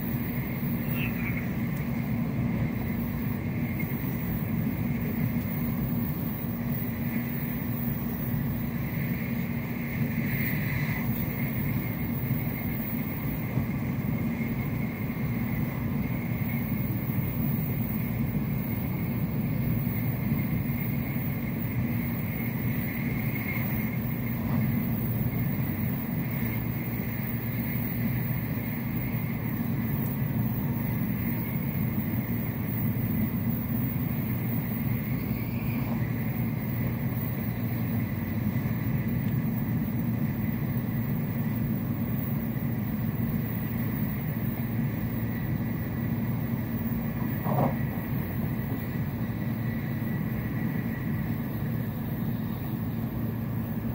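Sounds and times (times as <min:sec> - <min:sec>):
faint high whine: 0:00.0 - 0:53.9
train cabin rumble: 0:00.0 - 0:53.9.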